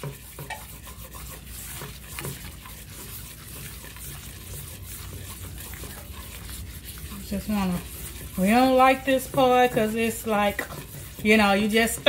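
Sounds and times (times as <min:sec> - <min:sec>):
light sizzling: 0:00.0 - 0:12.0
whisk scraping skillet: 0:00.0 - 0:12.0.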